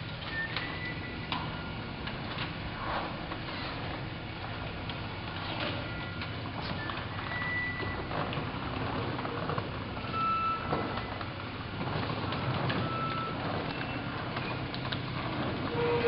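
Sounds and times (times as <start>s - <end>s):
garage door opener rumble: 0.0s - 16.0s.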